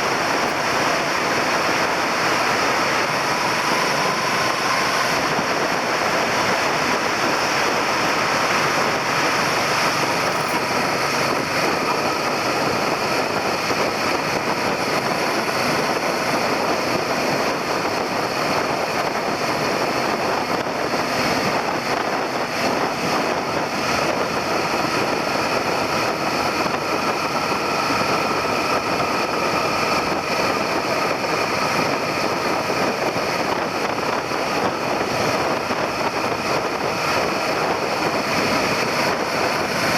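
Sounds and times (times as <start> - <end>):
motorcycle engine cruising: 0.0 - 39.9
wind and road rush: 0.0 - 39.9.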